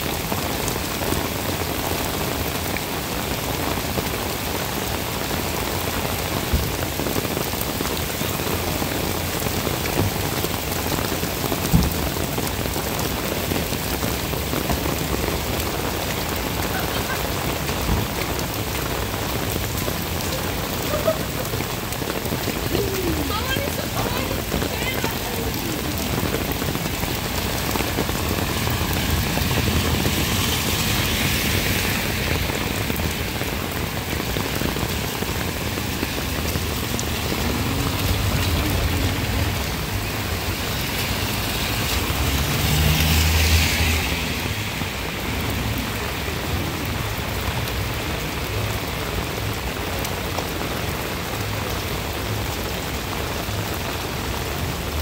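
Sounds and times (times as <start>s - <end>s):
car passing on wet road: 0.0s - 55.0s
heavy rain on pavement: 0.0s - 55.0s.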